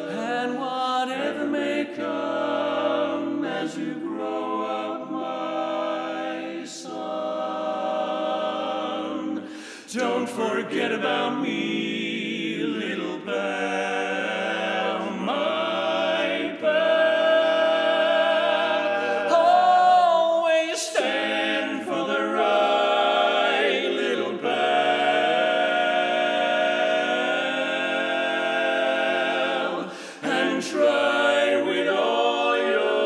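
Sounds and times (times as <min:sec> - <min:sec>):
male quartet singing a cappella: 0:00.0 - 0:33.0.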